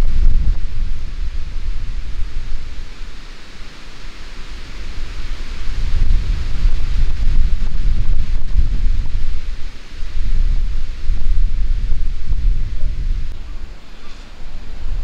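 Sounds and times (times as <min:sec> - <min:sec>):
steady rush of wind: 0:00.0 - 0:15.0
wind gusting against microphone: 0:00.0 - 0:15.0.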